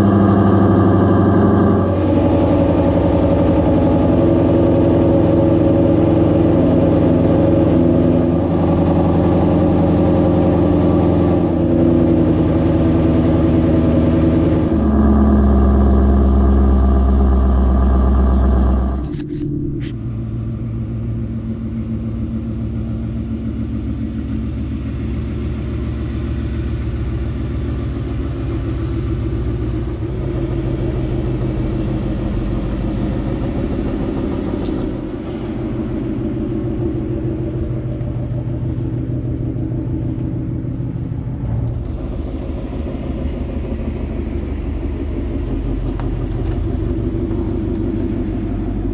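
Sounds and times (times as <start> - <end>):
car engine drone from cabin: 0.0 - 48.9.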